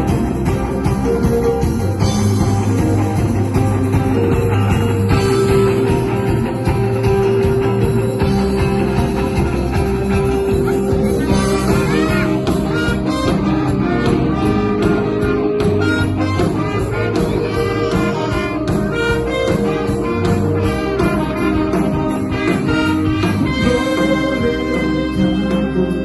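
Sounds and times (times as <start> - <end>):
drums steady beat: 0.0 - 26.0
live band playing: 0.0 - 26.0.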